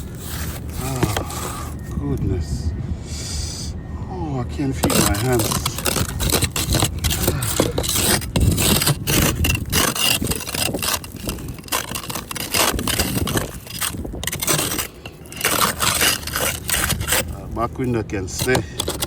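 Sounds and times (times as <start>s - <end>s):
scraping ice off car window: 0.0s - 1.8s, 4.8s - 19.0s
wind rumble on microphone: 0.0s - 19.0s.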